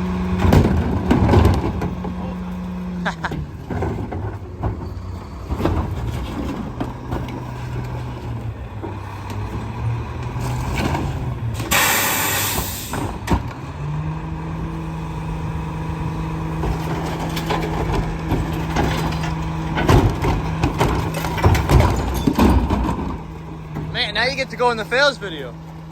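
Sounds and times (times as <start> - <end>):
garbage truck diesel engine: 0.0 - 25.9.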